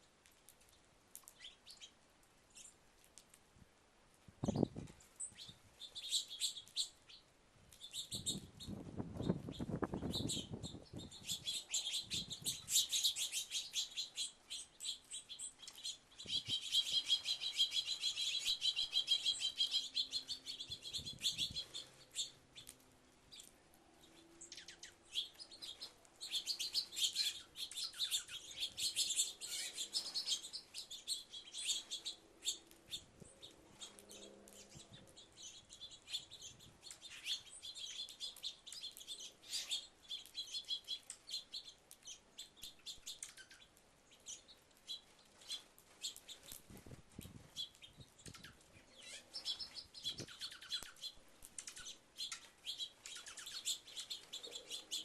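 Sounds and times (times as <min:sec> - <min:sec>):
small birds chirping and twittering: 0:00.0 - 0:03.4, 0:04.2 - 0:55.0.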